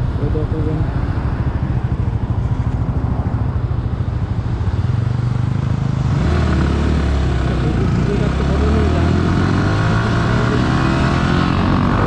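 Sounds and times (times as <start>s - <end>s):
motorcycle engine accelerating: 1.7s - 12.0s.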